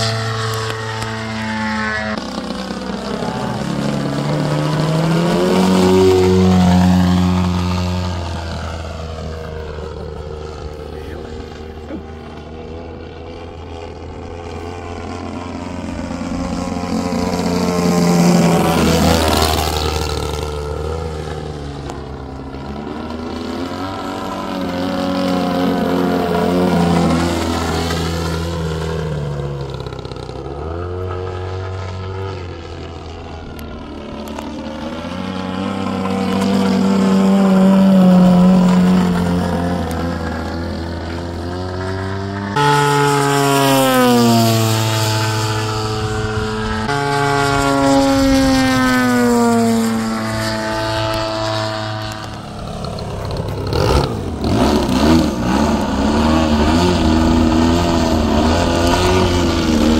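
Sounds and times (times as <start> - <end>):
model plane engine flying by: 0.0 - 59.9.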